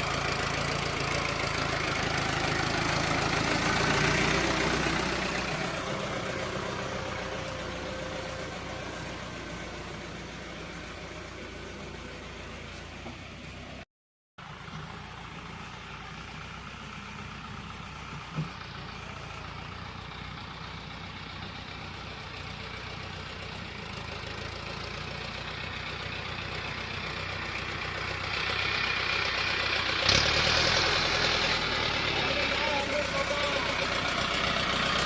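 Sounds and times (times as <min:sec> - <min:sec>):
tractor diesel engine running: 0:00.0 - 0:13.8, 0:14.4 - 0:35.0.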